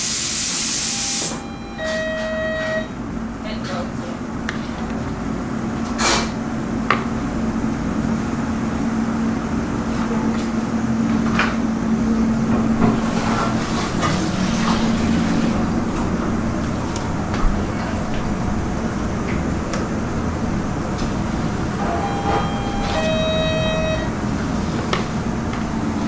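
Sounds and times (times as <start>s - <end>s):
kitchen machinery hum: 0.0s - 26.0s.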